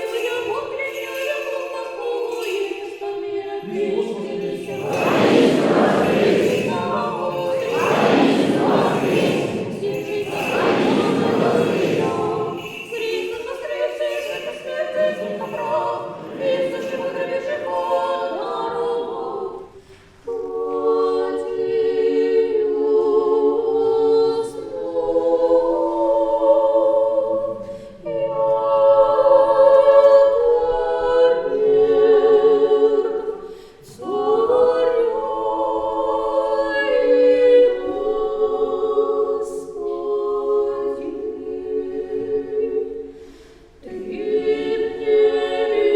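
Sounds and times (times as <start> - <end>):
choir chanting unaccompanied: 2.0 - 45.9.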